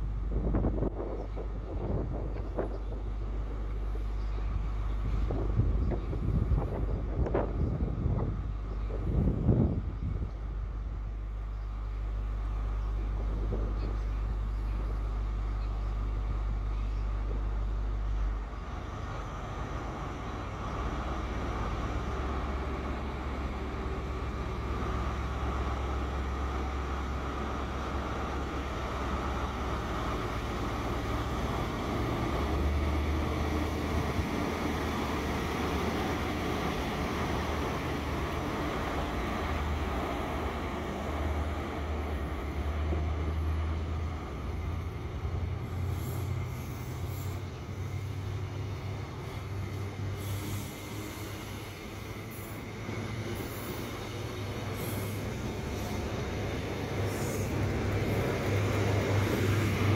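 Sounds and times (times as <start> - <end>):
diesel train engine hum: 0.0 - 59.9
rushing noise of engine and rail: 0.0 - 59.9.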